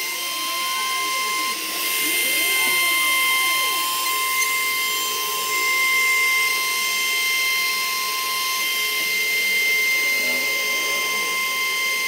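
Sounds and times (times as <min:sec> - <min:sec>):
router spindle cutting wood: 0:00.0 - 0:12.0.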